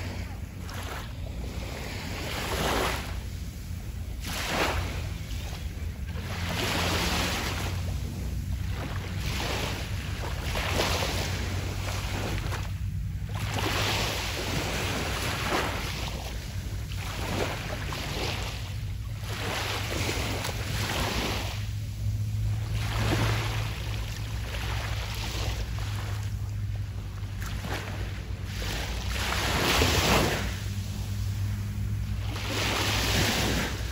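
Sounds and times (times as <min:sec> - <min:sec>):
low hum: 0:00.0 - 0:33.9
small waves breaking on beach: 0:00.0 - 0:33.9.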